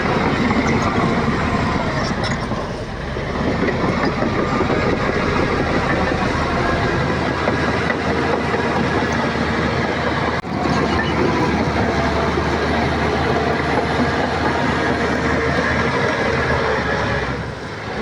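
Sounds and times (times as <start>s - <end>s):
bulldozer diesel engine under load: 0.0s - 18.0s.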